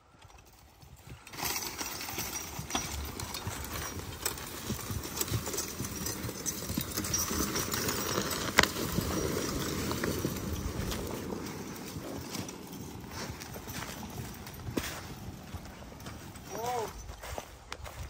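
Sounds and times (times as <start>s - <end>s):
hoofbeats on dirt: 0.0s - 18.0s
log scraping along ground: 0.1s - 18.0s
chains clinking: 0.2s - 17.5s.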